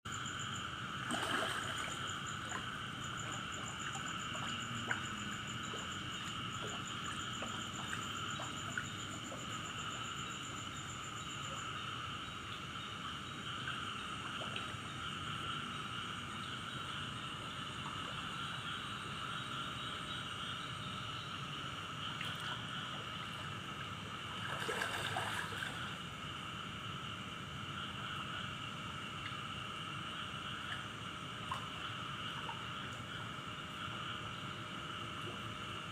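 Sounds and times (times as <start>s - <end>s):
insects and frogs chorus: 0.0s - 35.9s.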